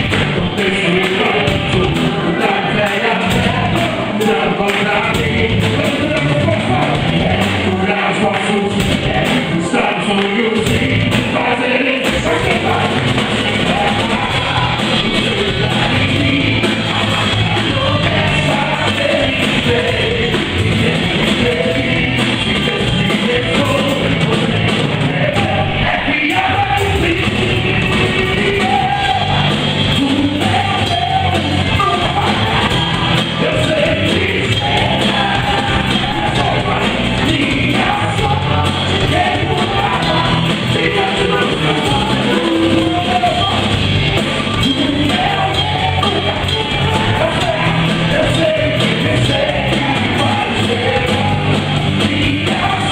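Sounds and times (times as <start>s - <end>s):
person singing gospel song: 0.0s - 52.9s
worship band playing: 0.0s - 52.9s.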